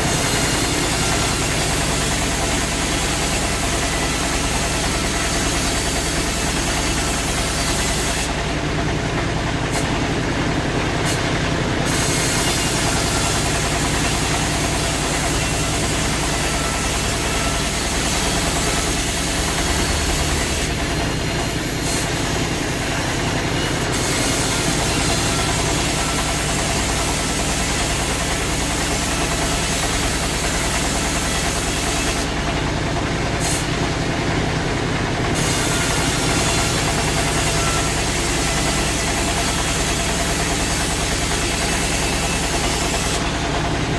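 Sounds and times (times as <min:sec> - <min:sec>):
sawmill machinery droning: 0:00.0 - 0:43.9.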